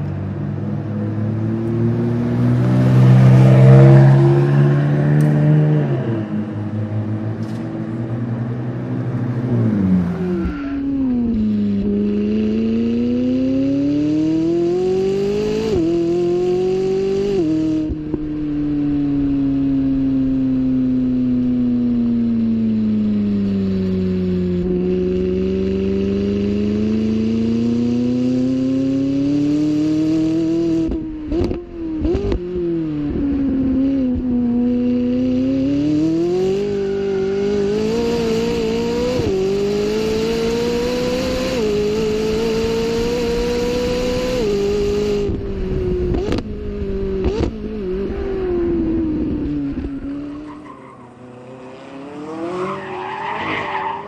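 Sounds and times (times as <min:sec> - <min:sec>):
car engine revving through gears: 0:00.0 - 0:54.0.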